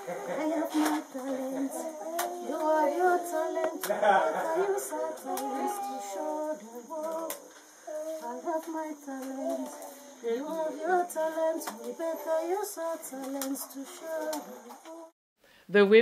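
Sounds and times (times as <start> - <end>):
women singing unaccompanied: 0.0 - 15.1.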